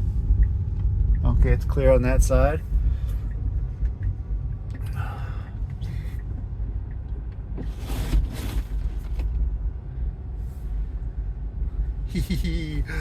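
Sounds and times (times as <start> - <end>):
car cabin rumble in snow: 0.0 - 13.0.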